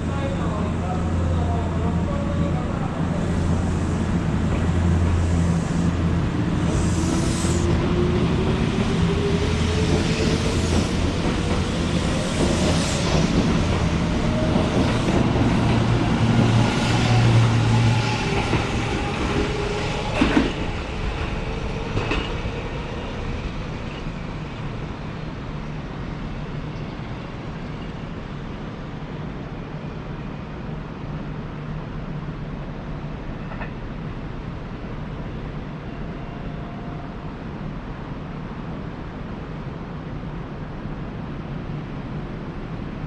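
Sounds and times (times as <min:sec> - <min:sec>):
rail and wheel noise: 0:00.0 - 0:43.0.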